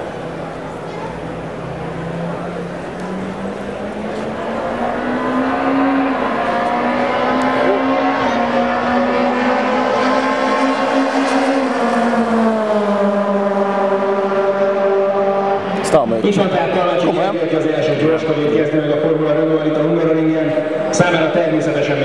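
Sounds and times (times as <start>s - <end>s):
race car engine passing: 0.0s - 22.0s.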